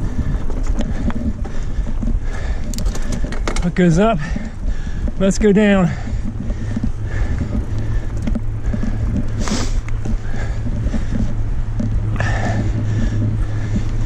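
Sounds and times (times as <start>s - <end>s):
bike rattling and knocking: 0.0s - 14.0s
wind on microphone: 0.0s - 14.0s.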